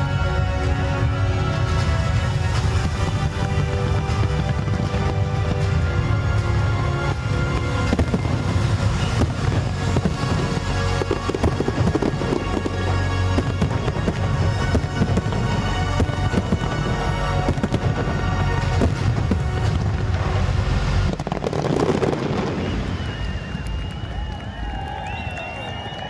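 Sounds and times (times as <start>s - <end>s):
music with low bass: 0.0s - 22.6s
fireworks crackling and popping: 0.0s - 26.0s.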